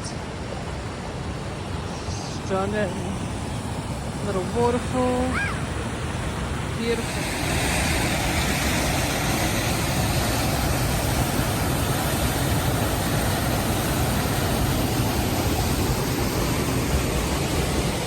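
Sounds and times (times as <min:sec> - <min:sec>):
waterfall rushing: 0:00.8 - 0:18.0.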